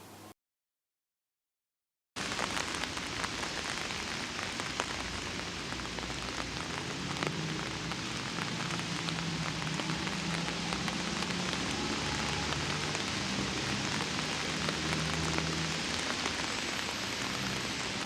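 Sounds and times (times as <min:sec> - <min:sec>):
rain drops ticking on surface: 0:02.2 - 0:18.0.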